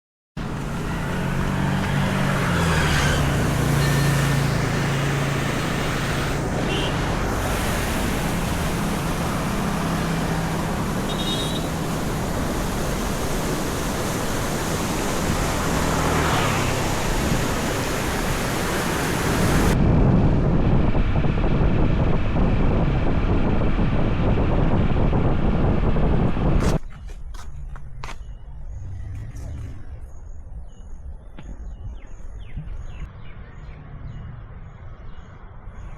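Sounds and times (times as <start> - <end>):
vehicle engine humming: 0.4 - 35.8
wind on microphone: 1.3 - 33.2.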